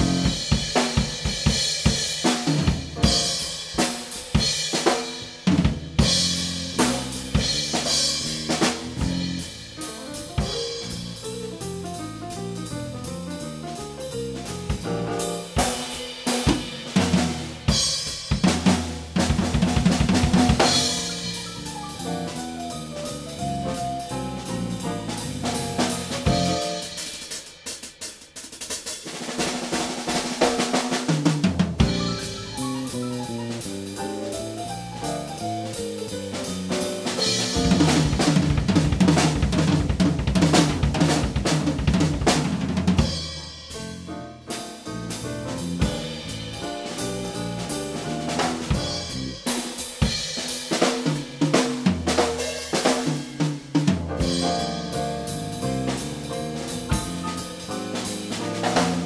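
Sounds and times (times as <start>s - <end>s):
live band playing instrumental: 0.0s - 27.6s, 30.1s - 59.0s
drum kit: 0.0s - 59.0s.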